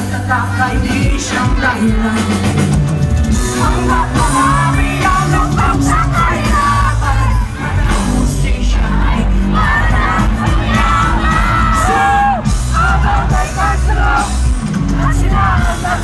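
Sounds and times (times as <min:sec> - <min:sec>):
bass guitar: 0:00.0 - 0:16.0
drums: 0:00.0 - 0:16.0
lead vocal singing: 0:00.0 - 0:16.0.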